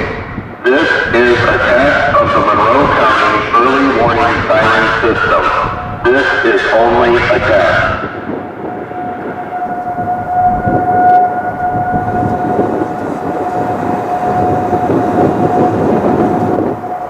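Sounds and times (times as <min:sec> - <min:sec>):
low rumbling noise: 0:00.0 - 0:17.0
recorded test announcements: 0:00.0 - 0:17.0
steady warning siren tone: 0:00.0 - 0:17.0.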